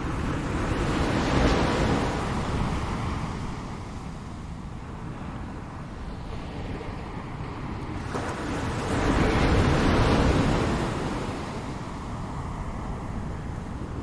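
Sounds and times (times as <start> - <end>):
ocean waves breaking: 0.0 - 14.0
wind noise on microphone: 0.0 - 14.0.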